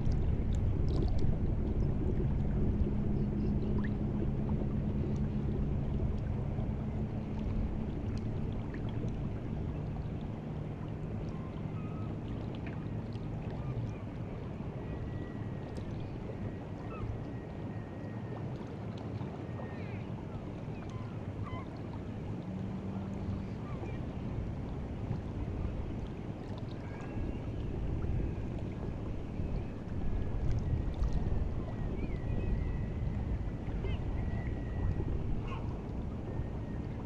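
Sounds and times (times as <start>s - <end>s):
seawater lapping at shore: 0.0s - 37.0s.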